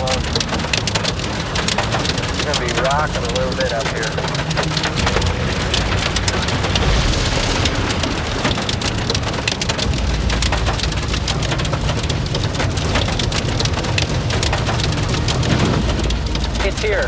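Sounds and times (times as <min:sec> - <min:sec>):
car rumbling on road: 0:00.0 - 0:17.0
heavy rain on car roof: 0:00.0 - 0:17.0.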